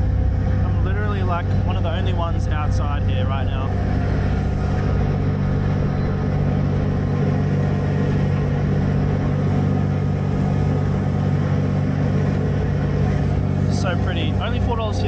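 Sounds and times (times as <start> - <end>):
ferry engines humming: 0.0 - 15.0.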